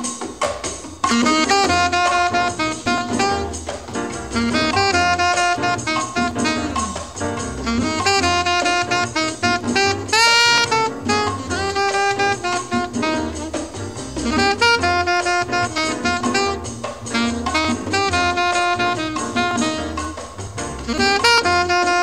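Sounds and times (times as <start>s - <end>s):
jazz saxophone over bass and drums: 0.0s - 22.0s.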